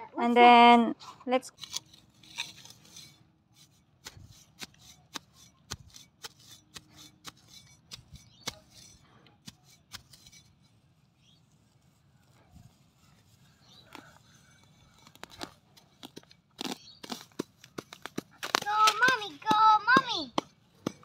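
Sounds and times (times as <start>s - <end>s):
grass being torn by hand: 1.5s - 10.5s, 11.7s - 19.9s.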